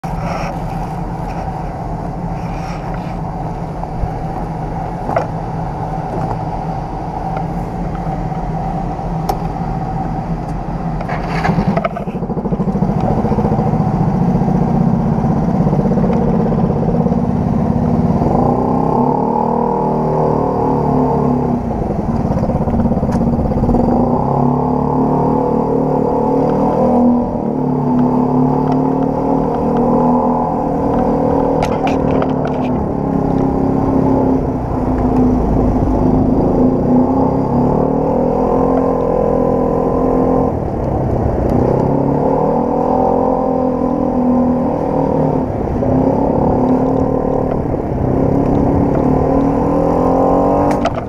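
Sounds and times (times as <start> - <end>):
scooter engine: 0.0 - 51.0.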